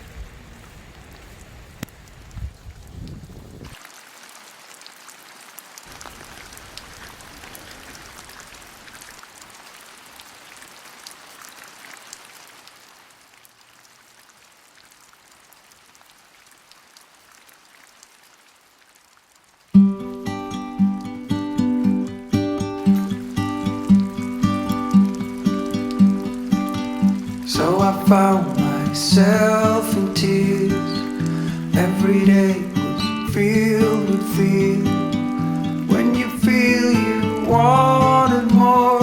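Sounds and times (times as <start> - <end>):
rain falling: 0.0 - 39.0
raindrops ticking on surfaces: 0.0 - 39.0.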